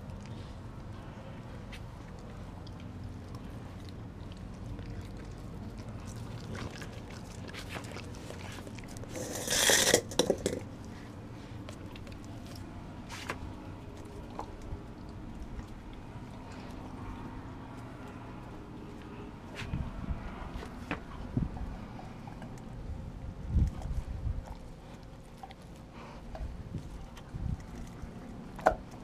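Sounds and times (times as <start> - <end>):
dogs chewing raw chicken: 0.0 - 29.0.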